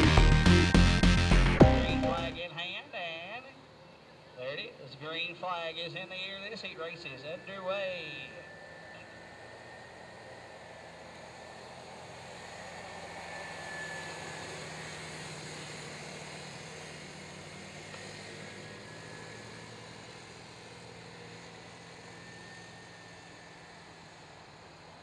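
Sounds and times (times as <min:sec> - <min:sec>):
atv engines droning: 0:00.0 - 0:25.0.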